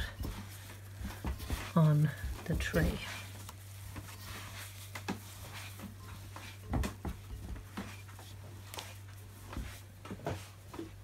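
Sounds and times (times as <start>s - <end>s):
dough kneaded against a bowl: 0.0s - 11.0s
low steady hum: 0.0s - 11.0s.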